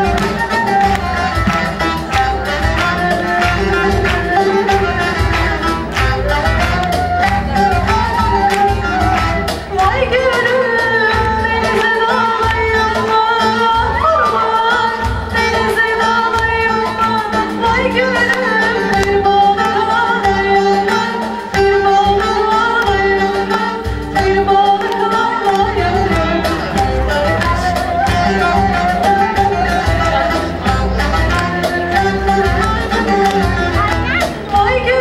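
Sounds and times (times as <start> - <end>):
woman singing folk song: 6.8 - 35.0.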